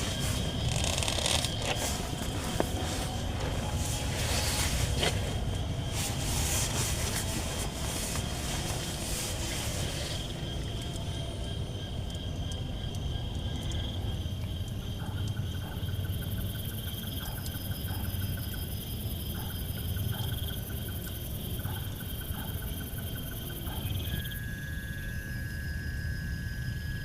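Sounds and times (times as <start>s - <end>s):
night insects trilling: 0.0s - 27.0s
pulsed insect call: 0.0s - 27.0s.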